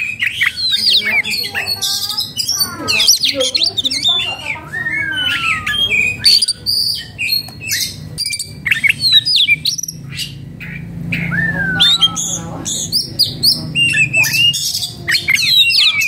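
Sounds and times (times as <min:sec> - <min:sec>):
bird singing whistles and chatter: 0:00.0 - 0:16.0.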